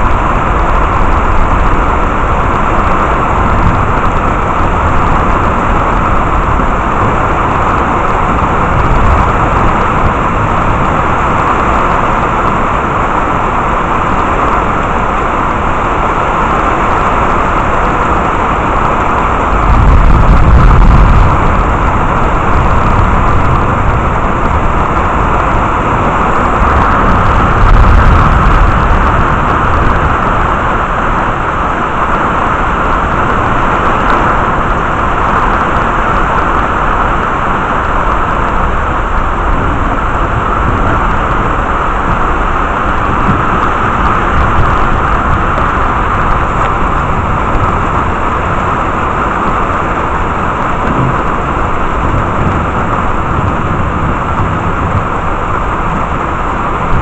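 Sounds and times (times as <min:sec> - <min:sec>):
heavy rain pouring: 0:00.0 - 0:57.0
low thunder rumble: 0:00.0 - 0:57.0.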